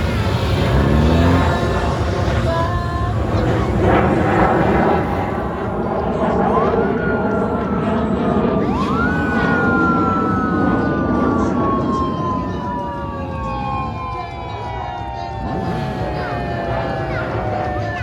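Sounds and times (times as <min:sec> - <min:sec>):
police motorcycle sirens wailing: 0:00.0 - 0:18.0
steady low rumble: 0:00.0 - 0:18.0.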